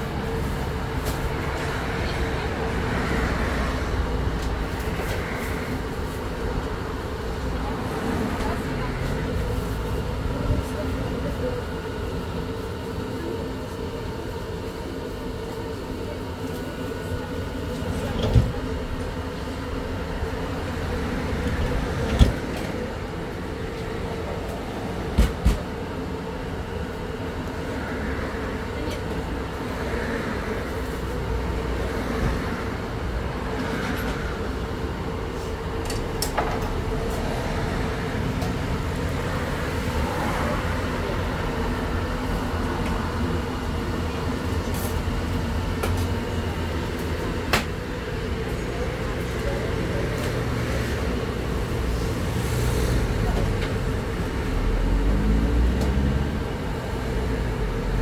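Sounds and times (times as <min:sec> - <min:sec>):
mechanical hum: 0:00.0 - 0:58.0.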